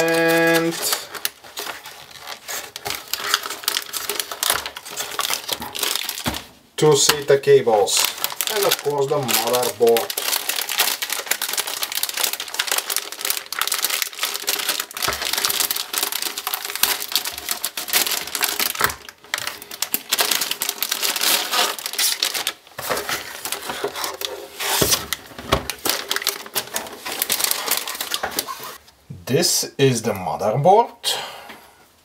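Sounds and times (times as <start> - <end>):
plastic bag crinkling: 0.0 - 28.8.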